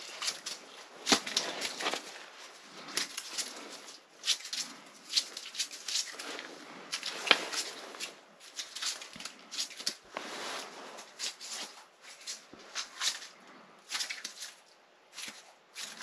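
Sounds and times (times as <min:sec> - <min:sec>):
plastic container handled: 0:00.0 - 0:13.3
rustling and scraping of gear: 0:00.0 - 0:16.0.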